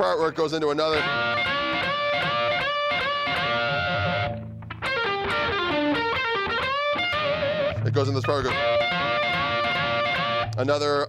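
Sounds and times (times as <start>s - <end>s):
electric guitar lead lick: 0.9s - 10.8s.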